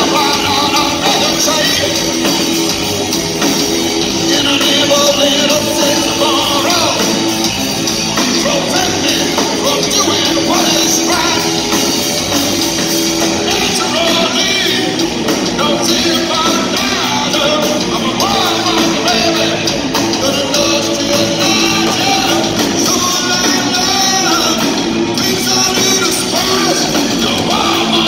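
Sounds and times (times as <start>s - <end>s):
person singing: 0.0s - 2.7s, 3.9s - 12.3s, 13.2s - 28.0s
bass guitar: 0.0s - 28.0s
drums: 0.0s - 28.0s
electric guitars: 0.0s - 28.0s.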